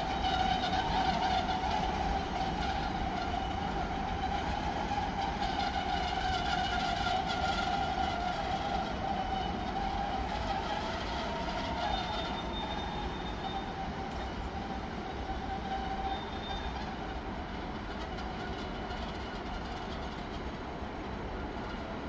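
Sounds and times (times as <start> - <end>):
freight train rumbling: 0.0 - 22.0.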